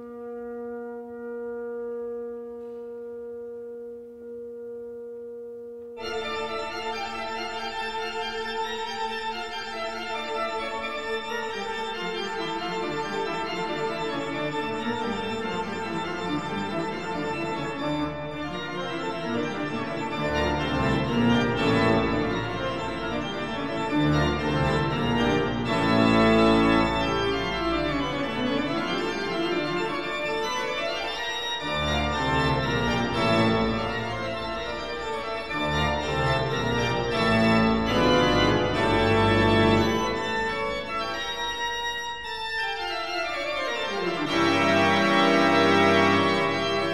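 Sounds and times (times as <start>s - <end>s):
organ chords: 0.0s - 46.9s.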